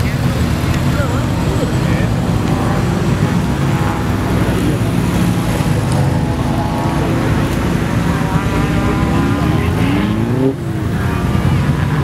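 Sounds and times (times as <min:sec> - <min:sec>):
car engines rumbling: 0:00.0 - 0:12.0
engine revving: 0:00.0 - 0:12.0.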